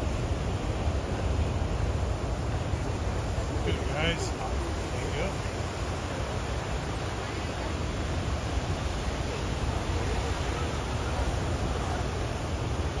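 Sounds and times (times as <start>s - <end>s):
heavy surf breaking: 0.0s - 13.0s.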